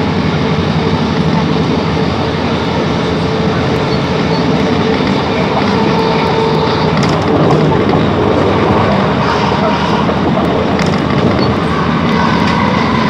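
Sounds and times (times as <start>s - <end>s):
diesel engine drone: 0.0s - 13.0s
wheel-on-rail noise: 0.0s - 13.0s.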